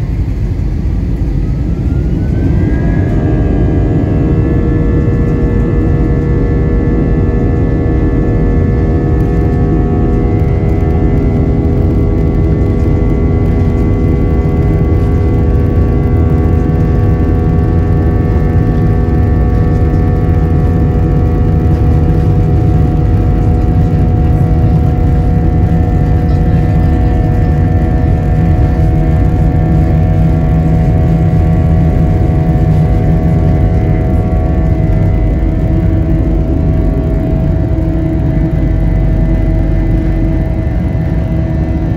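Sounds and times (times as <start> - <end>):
jet engines rumbling: 0.0 - 41.9
whining fan tones: 0.0 - 41.9.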